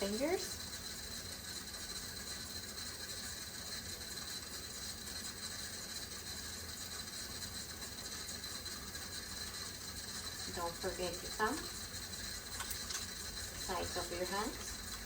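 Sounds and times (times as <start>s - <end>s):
faucet running: 0.0s - 15.0s.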